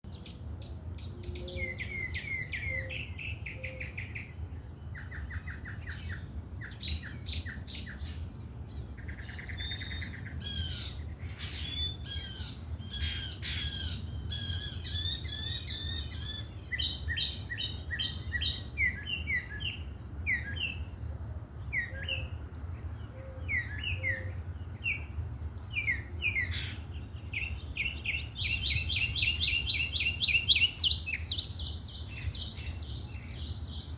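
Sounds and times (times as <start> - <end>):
birds chirping and trilling: 0.1 - 33.9.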